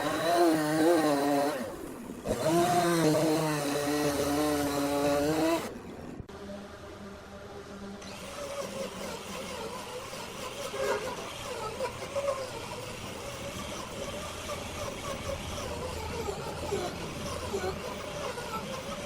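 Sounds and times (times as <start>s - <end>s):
machine running with rushing noise: 0.0s - 19.0s.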